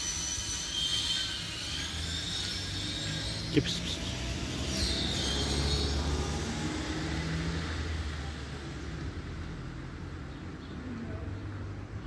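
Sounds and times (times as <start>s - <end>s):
vehicle engine passing: 1.9s - 11.9s.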